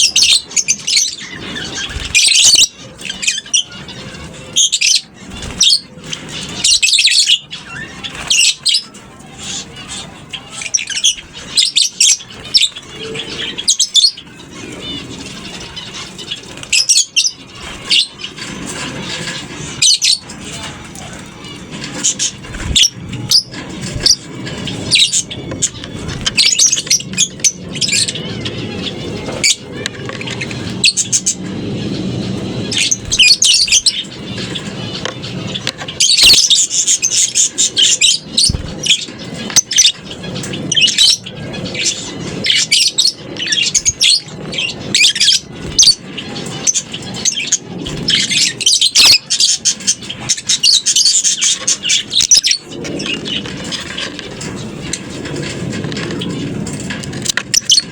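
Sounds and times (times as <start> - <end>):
lovebirds chirping and chattering: 0.0 - 57.9.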